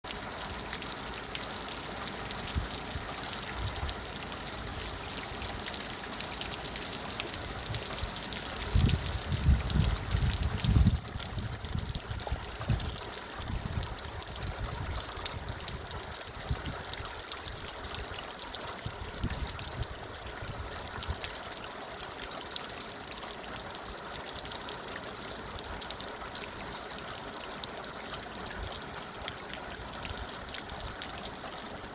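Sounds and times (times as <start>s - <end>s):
steady rain: 0.0s - 31.9s
water trickling: 0.0s - 31.9s.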